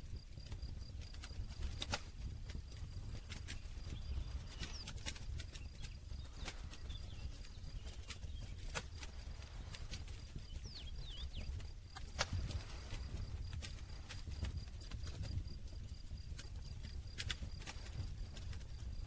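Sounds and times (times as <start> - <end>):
low rumble of flames: 0.0 - 19.0
campfire crackling and popping: 0.2 - 19.0.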